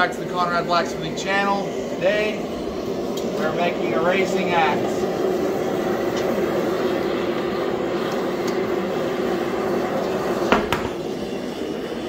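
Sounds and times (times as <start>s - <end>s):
forge blower humming: 0.0s - 12.0s
rushing air: 0.0s - 12.0s.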